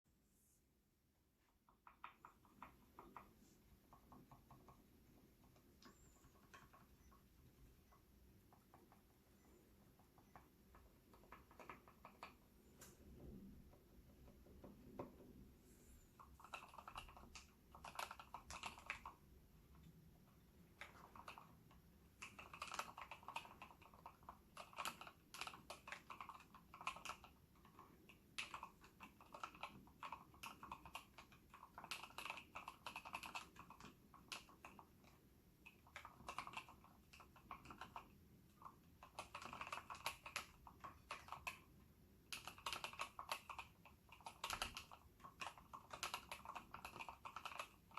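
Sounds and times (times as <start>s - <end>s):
typing on mechanical keyboard: 1.6s - 15.3s, 16.2s - 47.9s.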